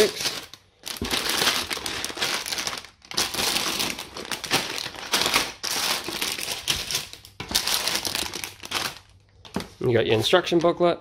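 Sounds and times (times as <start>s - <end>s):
plastic bags crinkling and rustling: 0.0s - 10.9s.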